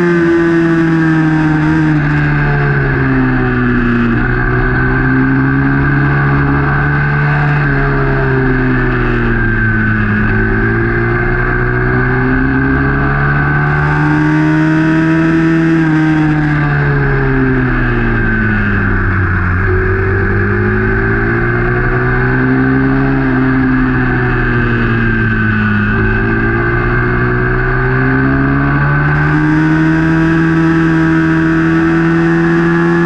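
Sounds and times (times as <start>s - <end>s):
motorcycle engine revving high: 0.0s - 33.0s.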